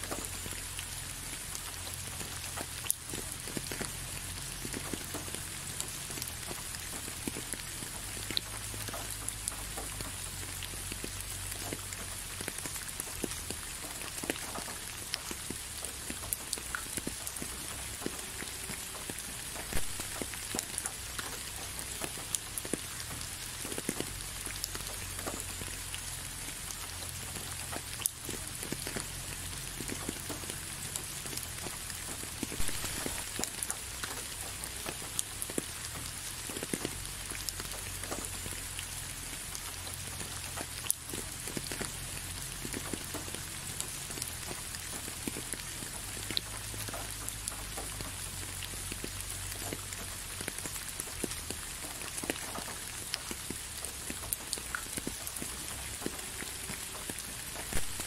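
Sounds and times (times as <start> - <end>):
raindrops ticking: 0.0 - 58.0
steady rain falling: 0.0 - 58.0.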